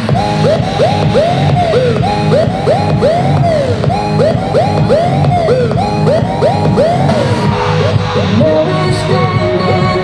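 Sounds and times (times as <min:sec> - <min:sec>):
hip hop track with heavy beat: 0:00.0 - 0:10.0.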